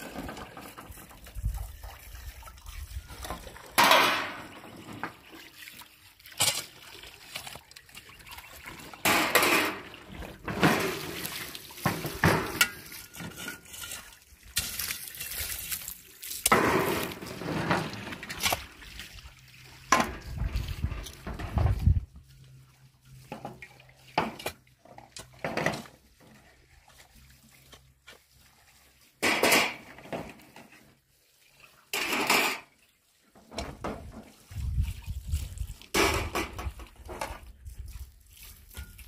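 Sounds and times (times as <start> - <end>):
water splashing on dishes: 0.0 - 39.0.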